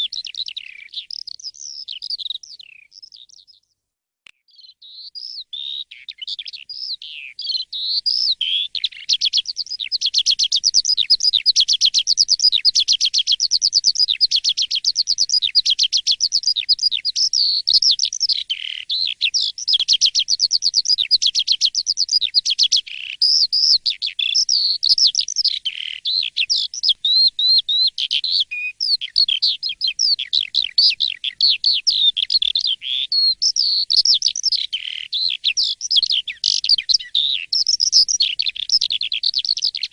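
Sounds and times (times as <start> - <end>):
starling singing chirps and whistles: 0.0 - 3.7, 4.4 - 39.9.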